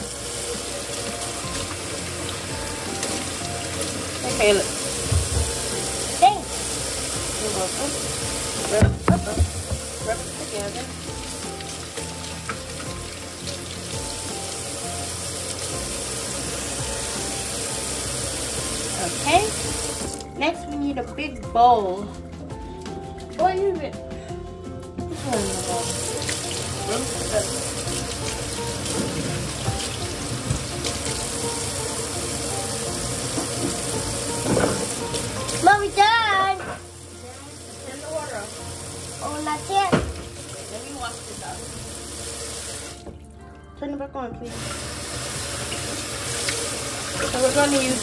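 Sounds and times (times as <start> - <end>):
faucet running into sink: 0.0 - 20.3, 25.1 - 43.3, 44.5 - 48.0.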